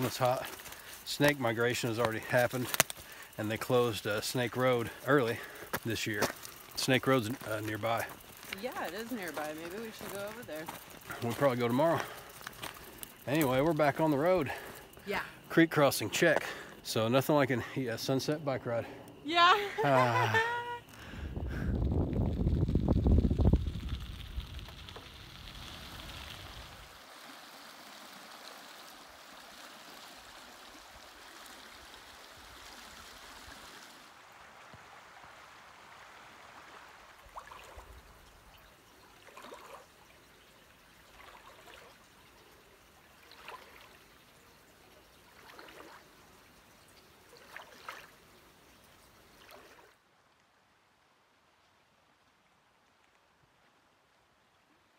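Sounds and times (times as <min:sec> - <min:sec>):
creek water flowing: 0:00.0 - 0:54.9.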